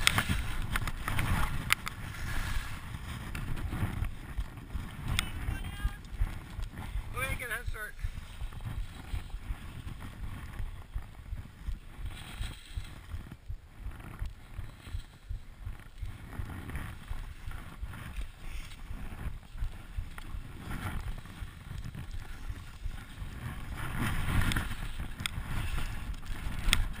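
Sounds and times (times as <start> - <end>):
skis scraping through snow: 0.0 - 27.0
wind buffeting microphone: 0.0 - 27.0.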